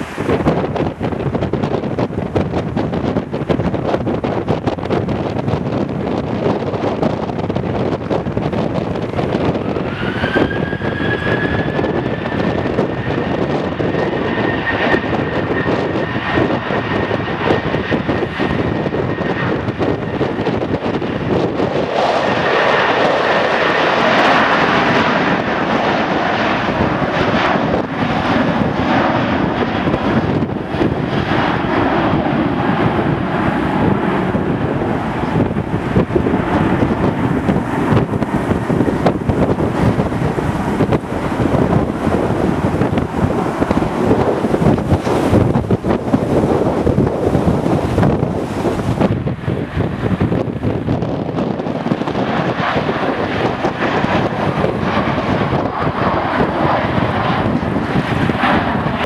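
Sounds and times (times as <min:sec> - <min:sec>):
jet engines spooling up: 0:00.0 - 0:03.5, 0:05.4 - 0:59.0
wind buffeting microphone: 0:00.0 - 0:59.0.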